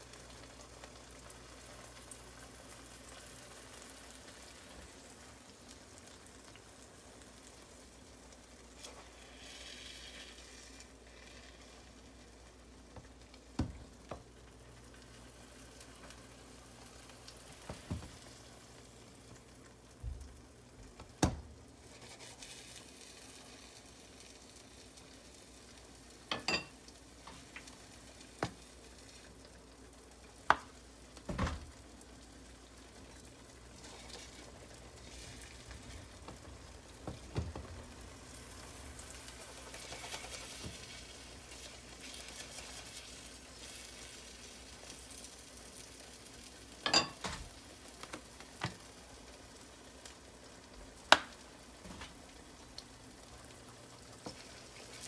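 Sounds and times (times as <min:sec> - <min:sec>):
egg frying with low sizzle: 0:00.0 - 0:55.0.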